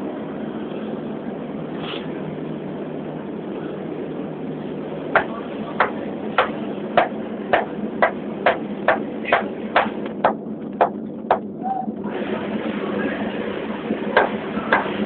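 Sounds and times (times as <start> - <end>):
furnace burner rushing and humming: 0.0 - 15.0.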